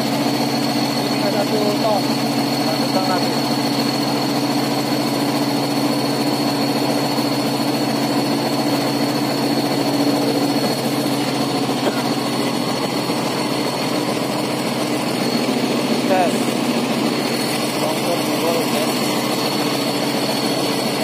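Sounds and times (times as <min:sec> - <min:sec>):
heavy diesel engines droning: 0:00.0 - 0:21.0
thin high whine: 0:00.0 - 0:21.0.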